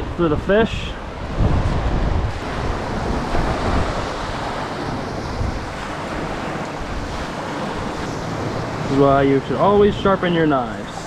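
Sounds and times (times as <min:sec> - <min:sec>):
small waves breaking: 0:00.0 - 0:11.0
wind rumbling on microphone: 0:00.0 - 0:11.0.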